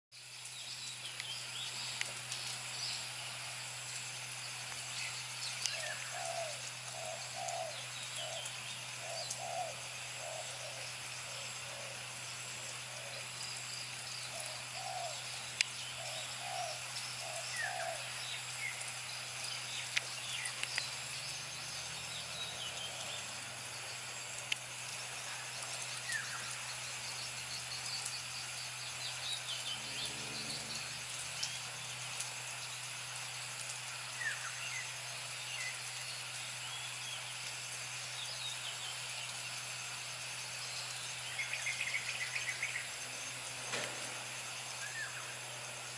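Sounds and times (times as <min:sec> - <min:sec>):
light hiss: 0:00.2 - 0:45.9.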